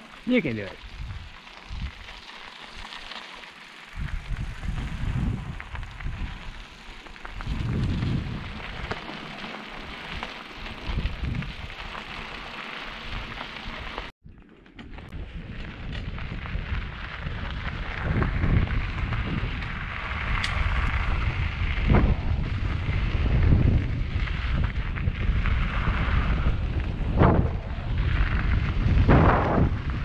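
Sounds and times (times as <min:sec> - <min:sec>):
bike tyres crunching on gravel: 0:00.0 - 0:30.0
wind buffeting microphone: 0:00.3 - 0:02.1, 0:03.9 - 0:12.1, 0:14.9 - 0:30.0.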